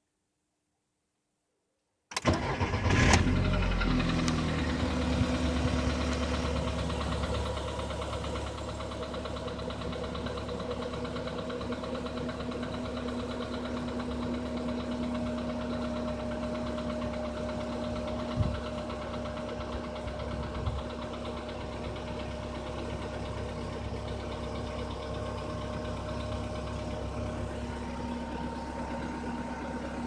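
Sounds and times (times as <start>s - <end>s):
petrol engine idling with knocking: 2.3s - 30.0s.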